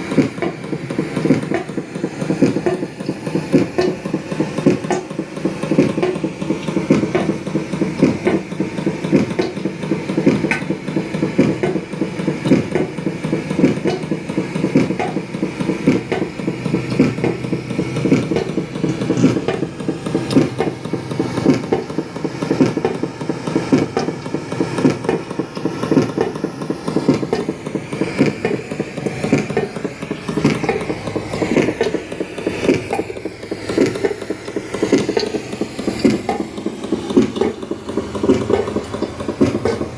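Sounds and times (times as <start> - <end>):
dense mechanical rattling and knocking: 0.0 - 39.9.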